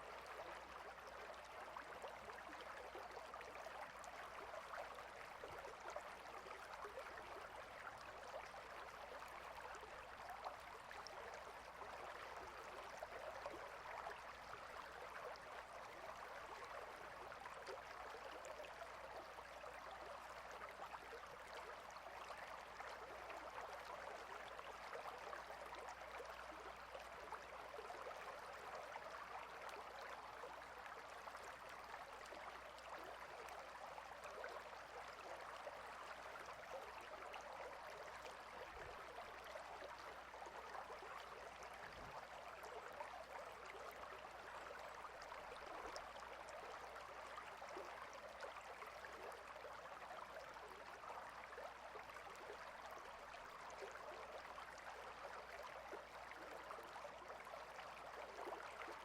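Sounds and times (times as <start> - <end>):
stream babbling and trickling: 0.0 - 59.0.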